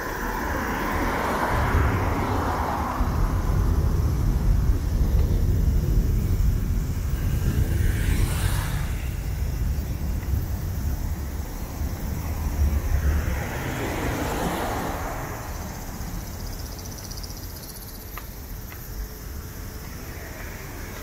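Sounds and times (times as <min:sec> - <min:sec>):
vehicle passing: 0:00.0 - 0:17.8
low traffic rumble: 0:00.0 - 0:21.0.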